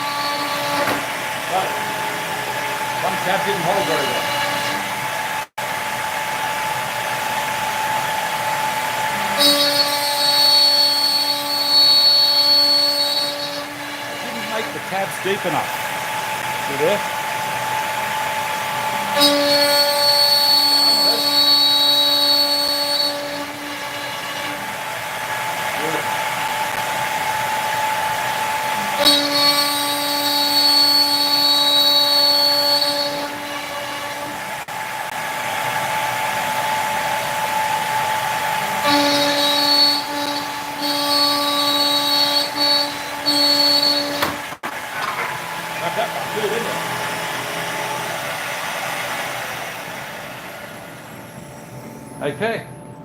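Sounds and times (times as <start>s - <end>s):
dust collector noise: 0.0s - 53.0s
router spindle whine: 0.0s - 53.0s.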